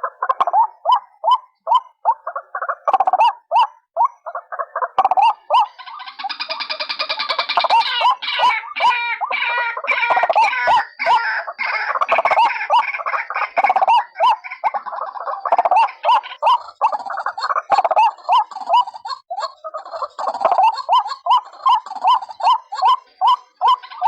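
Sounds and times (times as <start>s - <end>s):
waterhens calling: 0.0s - 24.0s.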